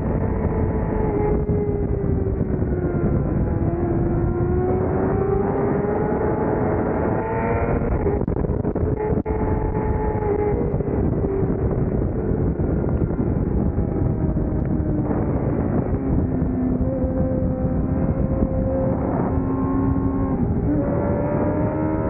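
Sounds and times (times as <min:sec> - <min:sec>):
motorcycle engine revving: 0:00.0 - 0:22.0
wind rush: 0:00.0 - 0:22.0.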